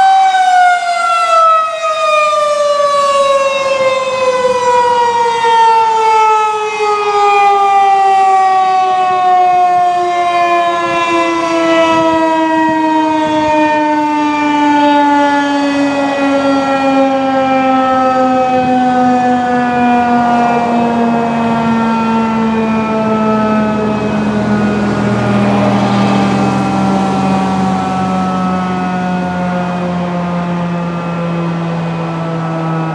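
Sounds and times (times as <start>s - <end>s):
warning siren winding down: 0.0s - 32.9s.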